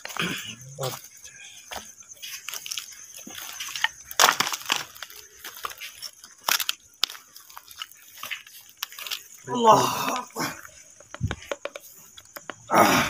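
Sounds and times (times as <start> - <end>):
footsteps crunching undergrowth: 0.0 - 12.6.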